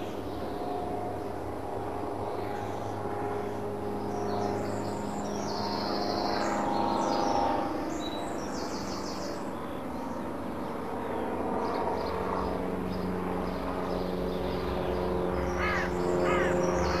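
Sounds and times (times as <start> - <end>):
steady low hum: 0.0 - 17.0
birds chirping: 2.4 - 17.0.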